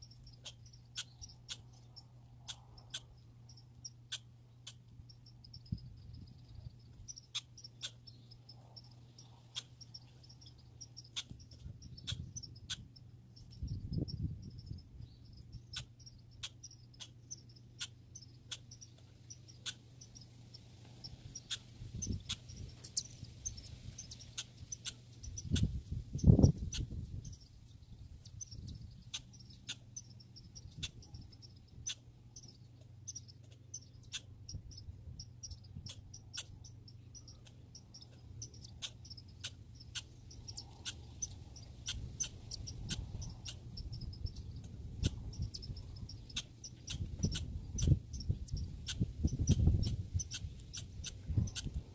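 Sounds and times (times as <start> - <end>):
squirrels clicking: 0.0 - 51.9
steady low hum: 0.0 - 51.9.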